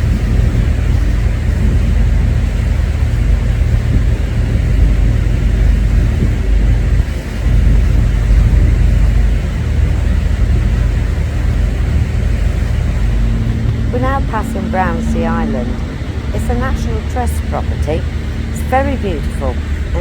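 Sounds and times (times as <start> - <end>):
ferry engine low rumble: 0.0 - 20.0.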